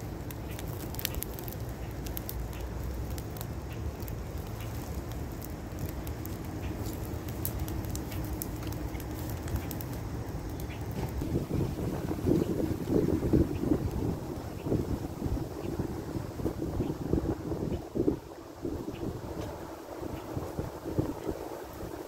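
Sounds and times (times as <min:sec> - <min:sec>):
wind rumble on microphone: 0:00.0 - 0:22.0
wood fire crackling and popping: 0:00.0 - 0:22.0.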